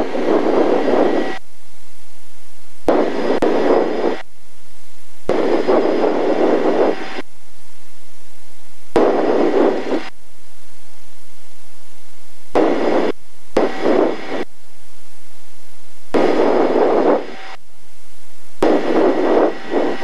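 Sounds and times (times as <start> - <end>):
jet engines and rushing air: 0.0 - 20.0.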